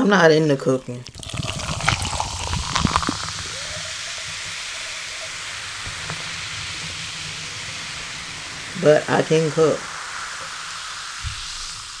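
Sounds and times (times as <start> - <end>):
steady hiss: 0.0 - 12.0
faint wavering tone: 2.1 - 11.9.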